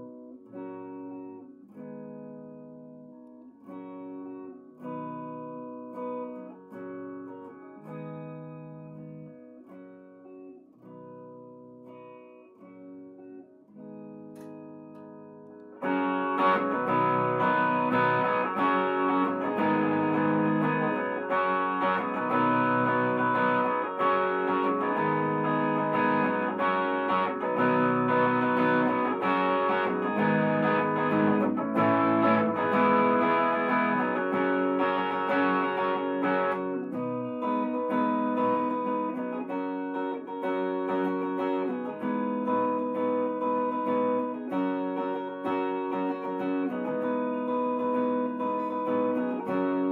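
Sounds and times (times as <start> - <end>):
electric guitar playing: 0.0 - 49.9.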